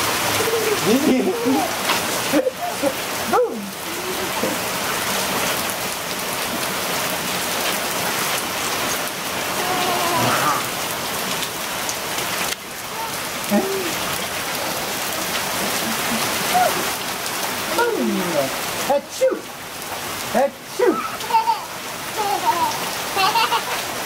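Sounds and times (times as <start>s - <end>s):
rain pouring on concrete: 0.0s - 24.0s.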